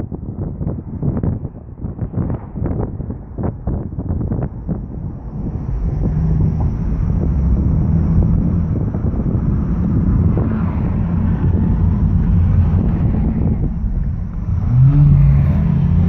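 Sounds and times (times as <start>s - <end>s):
road and engine rumble: 0.0s - 16.0s
wind rushing over microphone: 0.0s - 16.0s.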